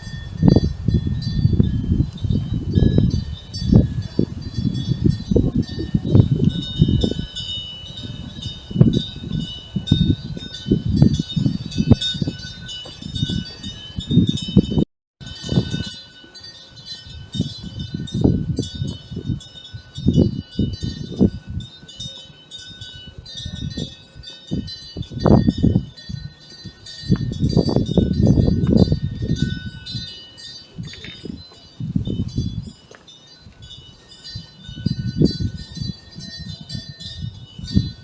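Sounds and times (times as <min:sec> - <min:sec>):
gusts of wind: 0:00.0 - 0:38.0
wind bells ringing: 0:00.0 - 0:38.0.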